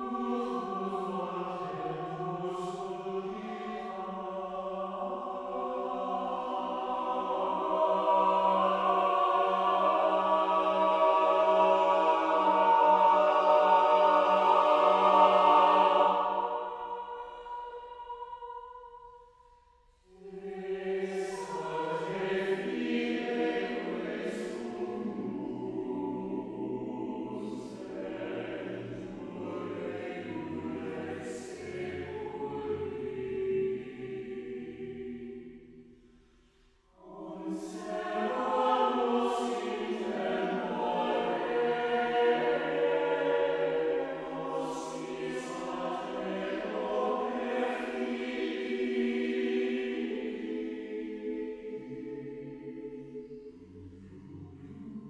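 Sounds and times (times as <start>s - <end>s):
mixed choir chanting: 0.0s - 19.4s, 20.0s - 35.9s, 36.9s - 55.0s.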